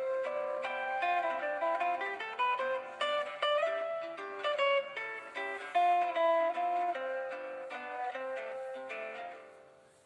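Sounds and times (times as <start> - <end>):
plucked-string ringtone melody: 0.0 - 10.0.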